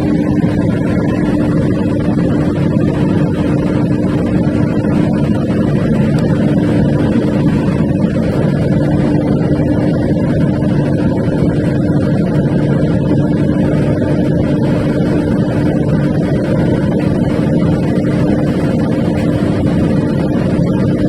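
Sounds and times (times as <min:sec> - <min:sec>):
diesel generator engine droning: 0:00.0 - 0:21.0.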